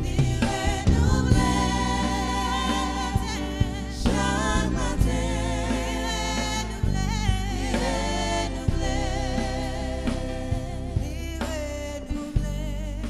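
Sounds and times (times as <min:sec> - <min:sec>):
voices singing with vibrato: 0:00.0 - 0:12.4
band with bass and drums: 0:00.0 - 0:13.0.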